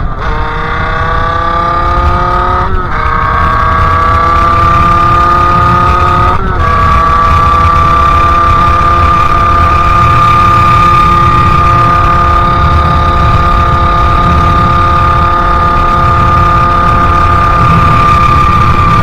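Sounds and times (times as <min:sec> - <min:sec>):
moped engine high-pitched note: 0:00.0 - 0:19.0.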